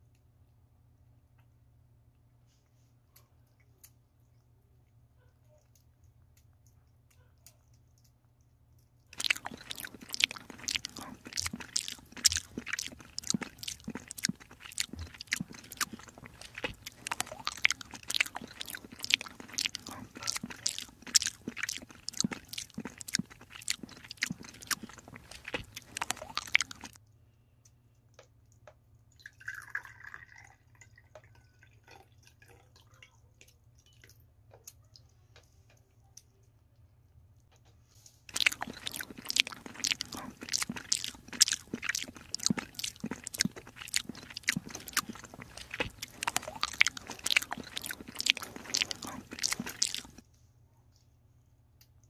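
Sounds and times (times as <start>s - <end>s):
kitten chewing wet food: 0.3s - 30.5s, 31.1s - 50.3s.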